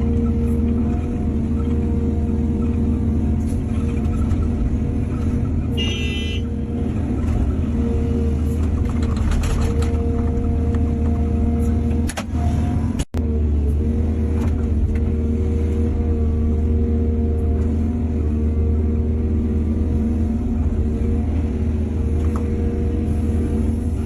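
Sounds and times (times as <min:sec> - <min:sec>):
diesel excavator engine running: 0:00.0 - 0:24.0.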